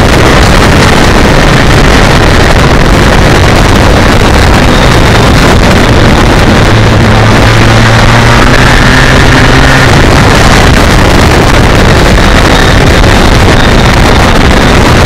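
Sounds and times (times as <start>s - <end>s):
motorcycle engine cruising: 0.0s - 15.0s
wind noise on microphone: 0.0s - 15.0s.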